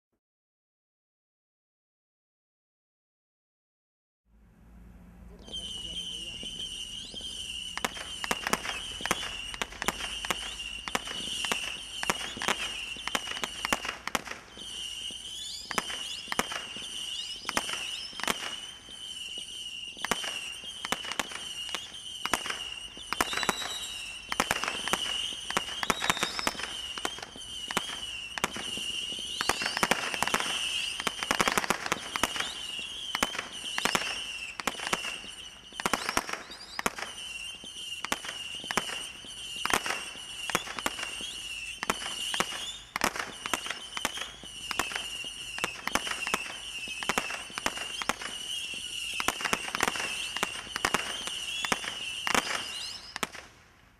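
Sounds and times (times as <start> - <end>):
high wavering firework whistle: 5.3 - 53.6
firework cracks and pops: 5.4 - 53.9.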